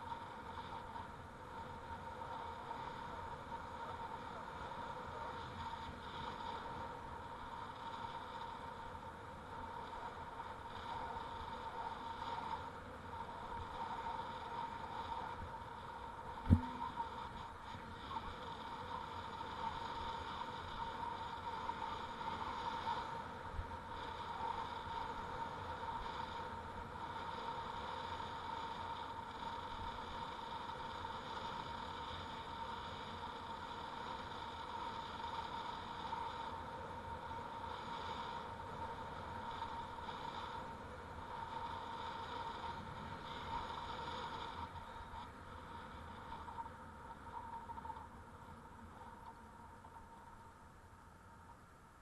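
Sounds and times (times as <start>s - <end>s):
bicycle tyres rolling on asphalt: 0.0s - 50.4s
thin constant whine: 0.0s - 52.0s.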